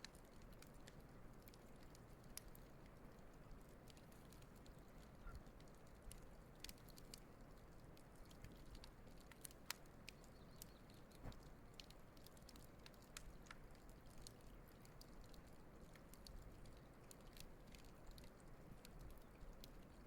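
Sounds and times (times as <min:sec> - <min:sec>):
wood campfire crackling: 0:00.0 - 0:20.0.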